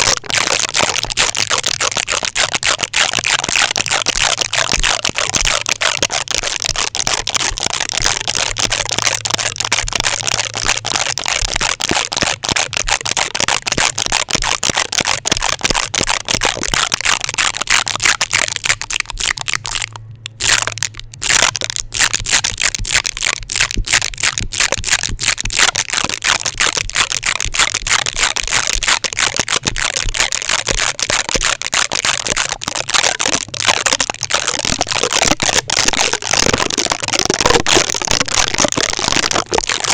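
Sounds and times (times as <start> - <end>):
tape rubbing on microphone: 0.0 - 39.9.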